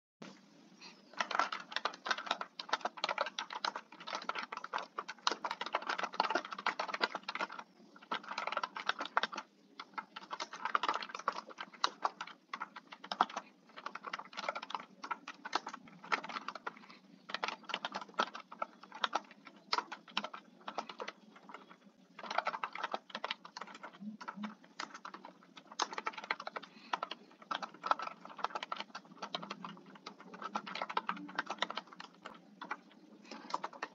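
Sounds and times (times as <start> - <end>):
computer keyboard typing: 1.1 - 33.9.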